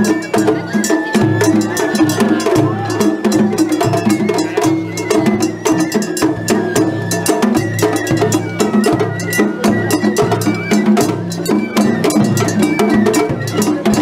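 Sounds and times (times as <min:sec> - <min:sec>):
fast drum strokes: 0:00.0 - 0:14.0.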